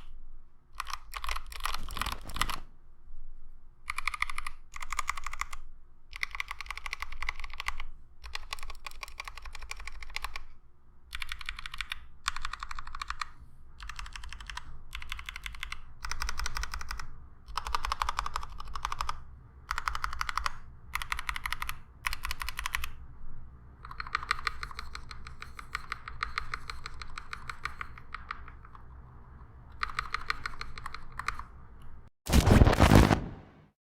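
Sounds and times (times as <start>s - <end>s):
rapid keyboard typing: 0.8s - 2.7s, 3.9s - 23.0s, 23.8s - 31.6s.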